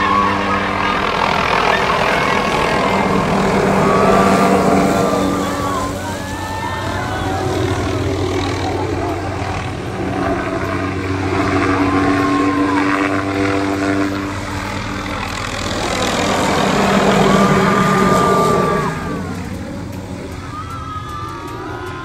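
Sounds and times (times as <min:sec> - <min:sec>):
helicopter flying overhead: 0:00.0 - 0:22.0.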